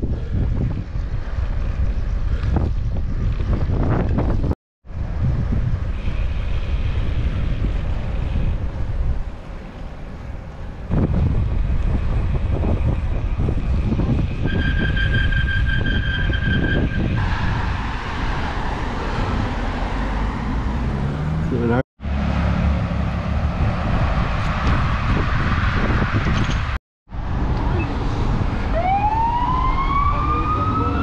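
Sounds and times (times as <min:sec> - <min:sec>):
wind buffeting microphone: 0:00.0 - 0:21.0, 0:23.1 - 0:31.0.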